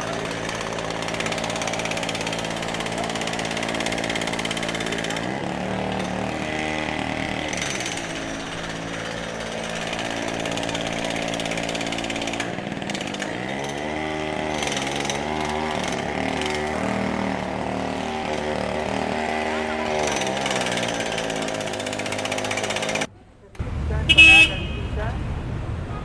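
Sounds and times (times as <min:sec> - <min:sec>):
traffic noise: 0:00.0 - 0:26.0
vehicle engines revving: 0:00.0 - 0:26.0.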